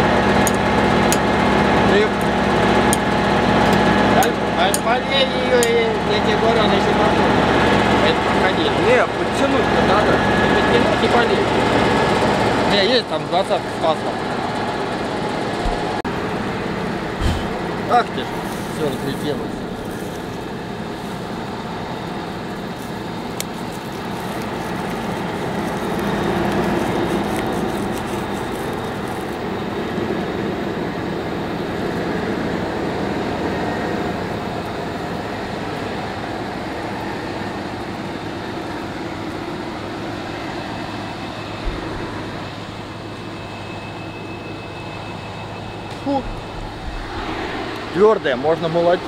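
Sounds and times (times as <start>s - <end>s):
vehicle engine running: 0.0s - 43.6s.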